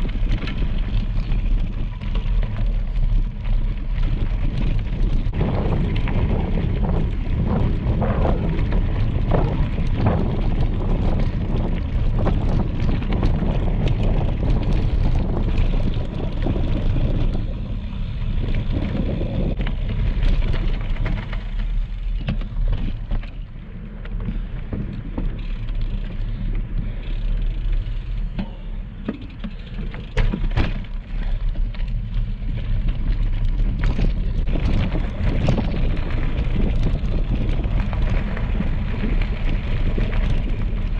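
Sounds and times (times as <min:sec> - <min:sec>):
bicycle rolling on gravel: 0:00.0 - 0:40.9
wind rumbling on microphone: 0:00.0 - 0:40.9.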